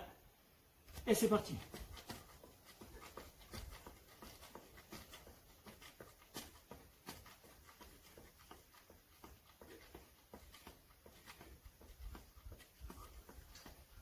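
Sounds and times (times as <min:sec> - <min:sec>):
feet tapping on floor mat: 0:00.8 - 0:14.0.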